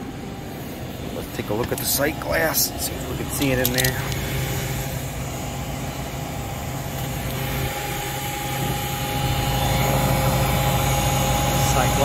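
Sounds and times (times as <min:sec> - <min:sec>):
compressor humming: 0:00.0 - 0:12.0
faint steady whine: 0:00.0 - 0:12.0.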